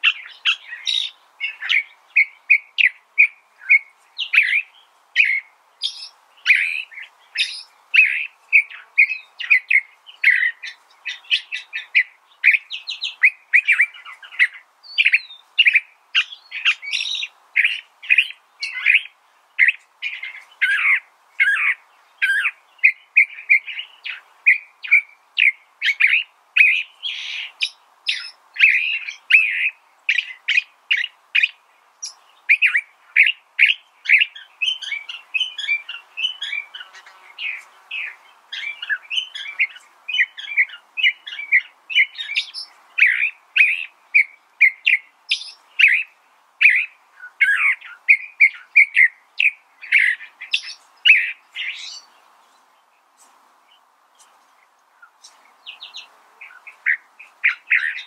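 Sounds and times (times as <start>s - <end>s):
bird singing varied phrases: 0.0s - 58.0s.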